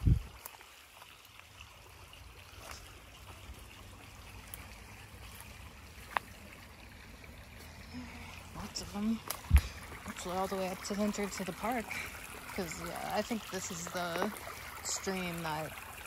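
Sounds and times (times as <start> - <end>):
creek water trickling over rocks: 0.0 - 16.0.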